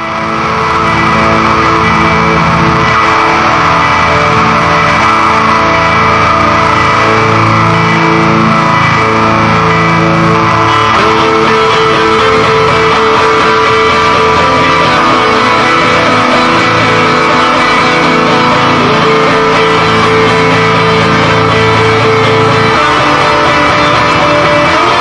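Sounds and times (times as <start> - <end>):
bass guitar: 0.0 - 25.0
electric guitar chords: 0.0 - 25.0.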